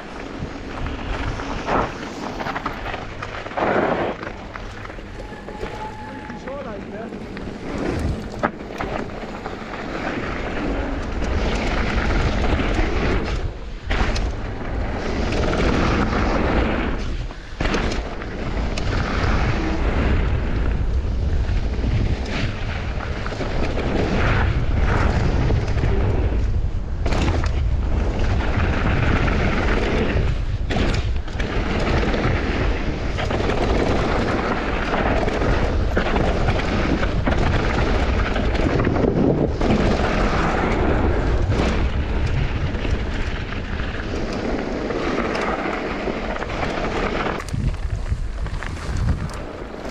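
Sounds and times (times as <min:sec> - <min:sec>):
bike tyre rolling noise: 0:00.0 - 0:49.9
wind rumble on microphone: 0:00.0 - 0:49.9.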